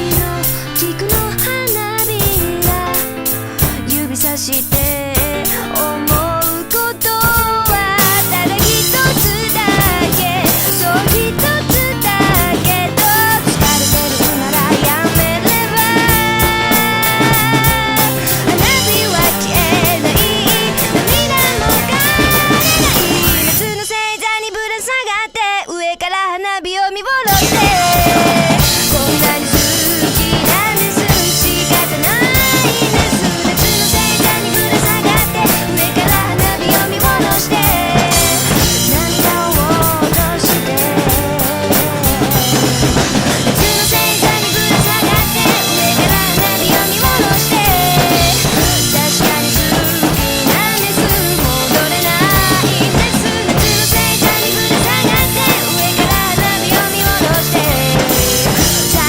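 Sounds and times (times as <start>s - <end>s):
drum kit rock beat: 0.0s - 25.2s, 27.1s - 59.0s
recorded pop band track: 0.0s - 59.0s.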